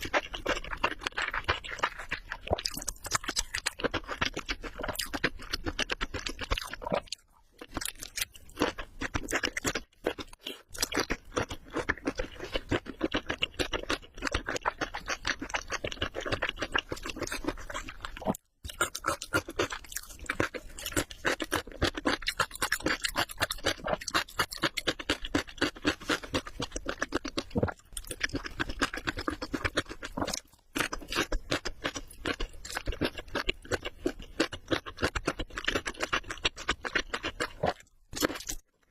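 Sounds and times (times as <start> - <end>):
crunchy chewing of fried food: 0.0 - 38.9.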